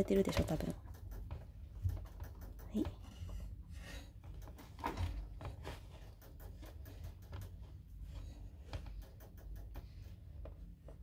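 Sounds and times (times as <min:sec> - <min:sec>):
rustling and scratching: 0:00.0 - 0:11.0.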